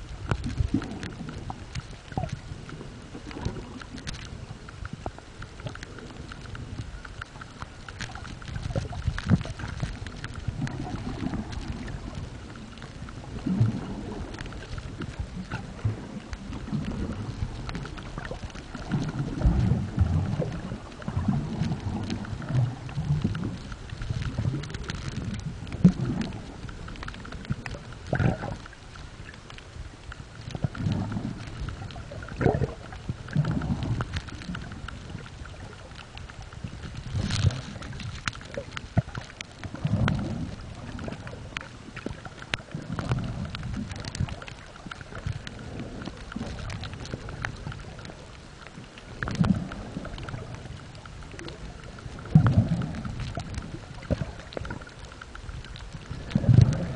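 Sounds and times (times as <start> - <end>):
underwater water rushes and thumps: 0.0 - 56.9.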